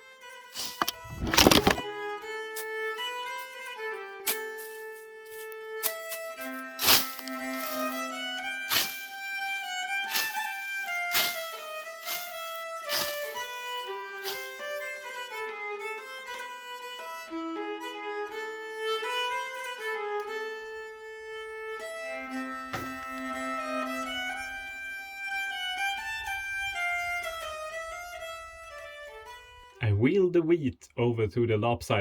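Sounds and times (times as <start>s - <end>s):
fiddle melody: 0.0s - 30.0s.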